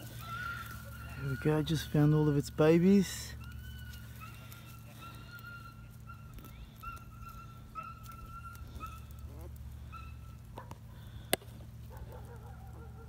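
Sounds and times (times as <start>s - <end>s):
puppies whining: 0.0s - 13.0s.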